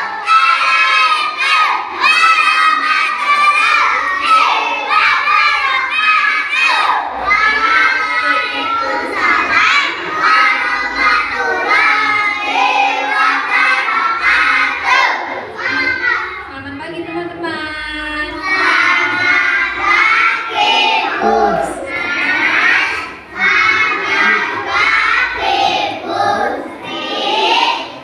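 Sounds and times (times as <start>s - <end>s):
children shouting and singing: 0.0s - 16.5s, 18.2s - 28.0s.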